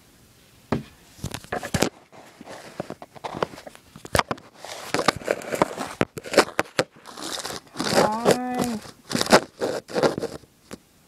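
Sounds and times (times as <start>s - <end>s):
fingers rubbing on camera: 1.5s - 10.4s.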